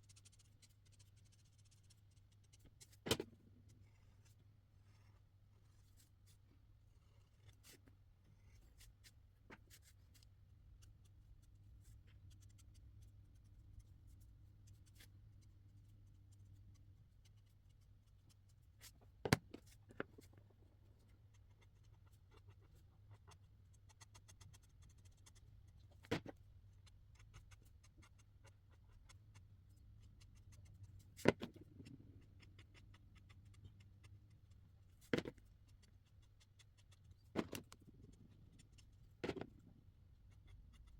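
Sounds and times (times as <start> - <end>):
marker scratching on paper: 0.0 - 3.1, 8.4 - 26.1, 26.8 - 39.6, 40.2 - 40.9.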